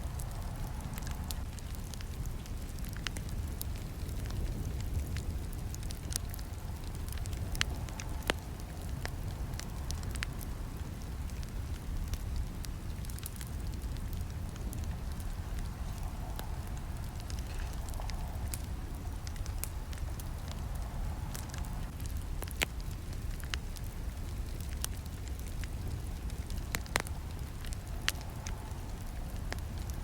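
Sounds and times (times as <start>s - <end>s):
fire crackling and popping: 0.0s - 30.0s
flames rumbling: 0.0s - 30.0s.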